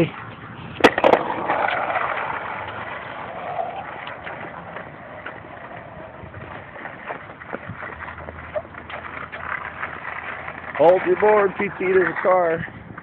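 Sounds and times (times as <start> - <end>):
skateboard clicks and knocks: 0.0 - 13.0
skateboard wheels rolling on pavement: 0.0 - 13.0.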